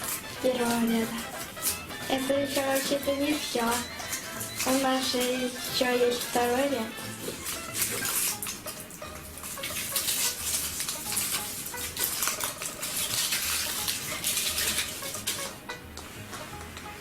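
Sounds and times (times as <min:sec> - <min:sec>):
foil wrappers crinkling: 0:00.0 - 0:17.0.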